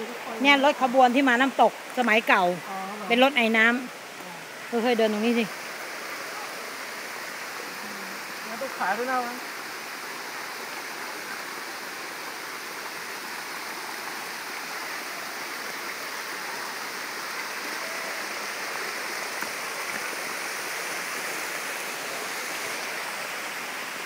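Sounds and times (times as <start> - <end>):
waterfall and stream rushing: 0.0 - 24.0.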